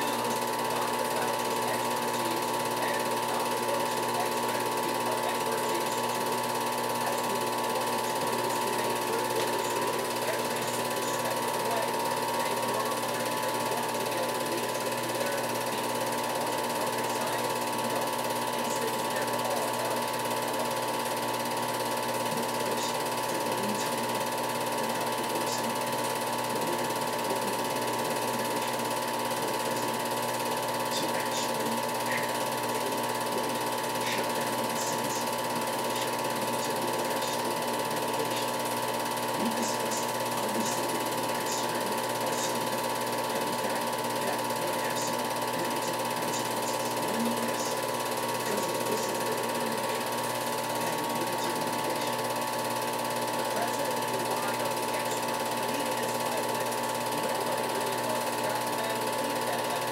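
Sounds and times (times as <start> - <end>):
film projector clatter: 0.0 - 59.9
projector whine: 0.0 - 59.9.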